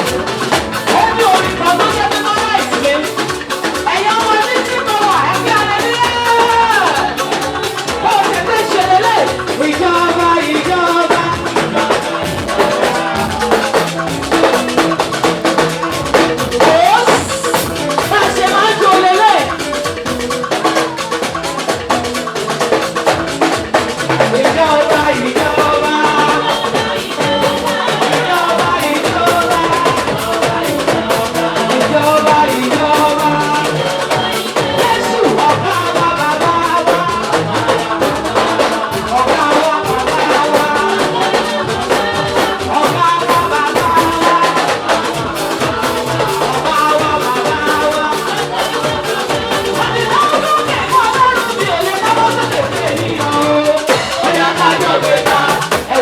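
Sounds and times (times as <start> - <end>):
drum kit beat: 0.0 - 56.0
gospel band playing: 0.0 - 56.0
person singing: 0.0 - 56.0.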